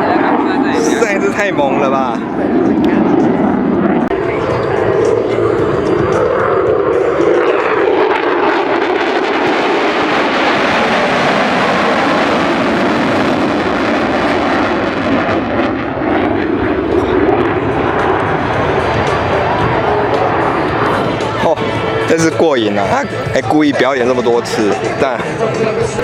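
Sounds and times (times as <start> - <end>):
fighter jet roaring: 0.0 - 26.0.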